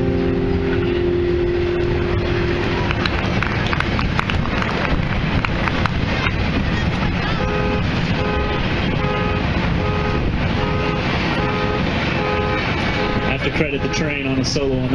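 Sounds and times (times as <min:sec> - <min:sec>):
low rumble of traffic: 0:00.0 - 0:14.9.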